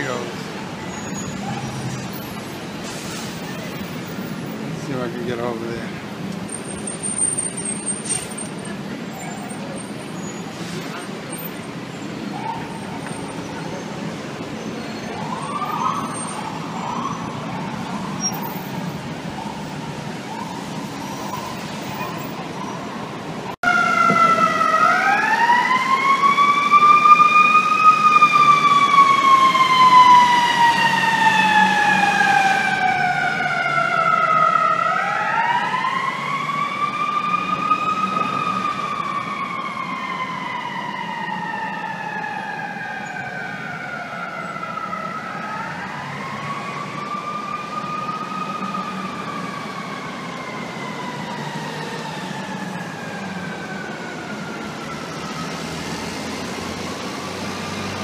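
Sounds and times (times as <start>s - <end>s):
fire truck siren wailing: 0.0s - 58.0s.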